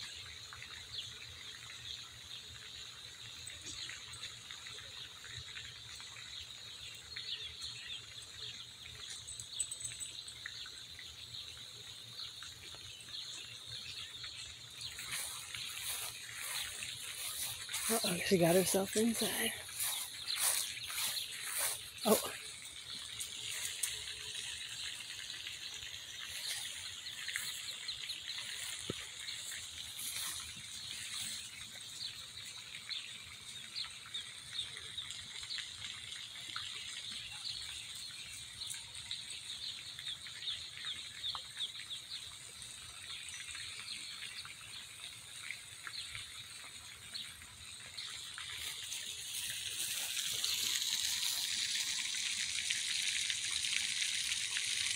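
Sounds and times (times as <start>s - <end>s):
fountain water splashing: 0.0s - 54.9s.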